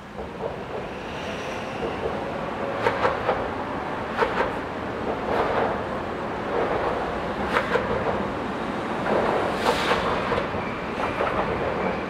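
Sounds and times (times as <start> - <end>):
road traffic rumble on bridge: 0.0 - 12.0.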